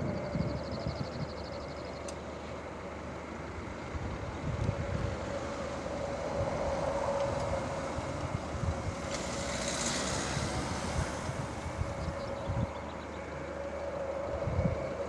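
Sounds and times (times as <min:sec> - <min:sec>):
wind buffeting microphone: 0:00.0 - 0:02.0, 0:03.3 - 0:15.0
distant aircraft engines humming: 0:00.0 - 0:15.0.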